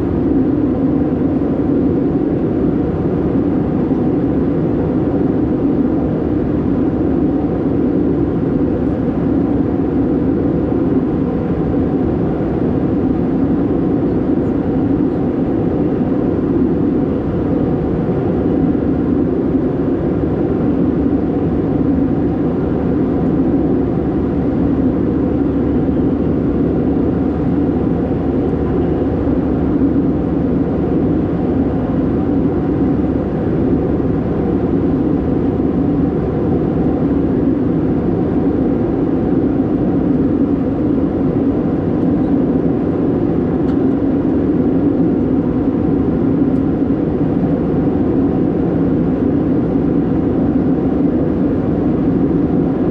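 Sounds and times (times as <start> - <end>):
airplane cabin engine drone: 0.0 - 52.9.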